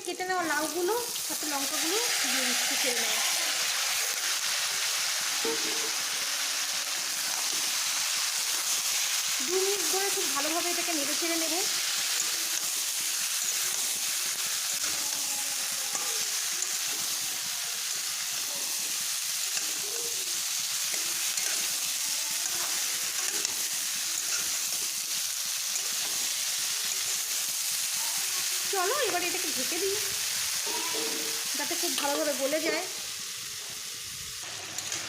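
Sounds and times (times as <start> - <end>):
vegetables sizzling in oil: 0.0 - 35.0.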